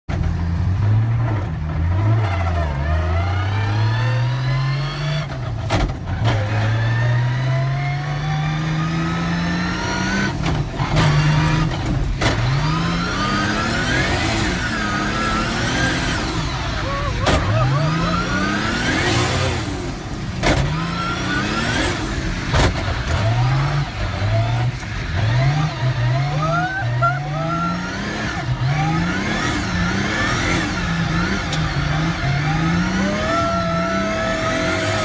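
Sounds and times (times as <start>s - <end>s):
car engine revving hard: 0.2s - 35.0s.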